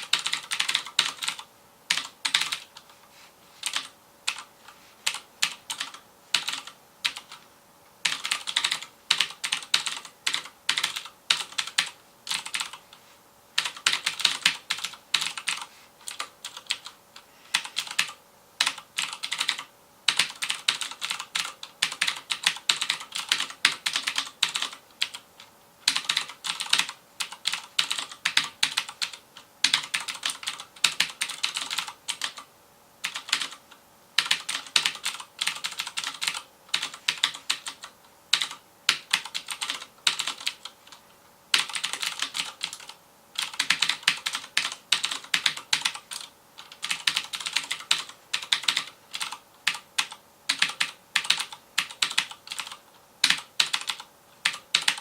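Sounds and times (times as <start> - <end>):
clicky mechanical keyboard typing: 0.0 - 3.0, 3.6 - 7.4, 8.0 - 12.9, 13.6 - 33.6, 34.2 - 55.0.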